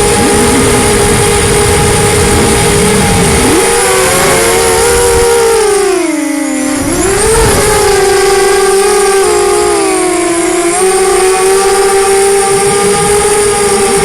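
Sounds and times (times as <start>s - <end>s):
quadcopter motors whining: 0.0s - 14.0s
wind rumble: 0.0s - 14.0s.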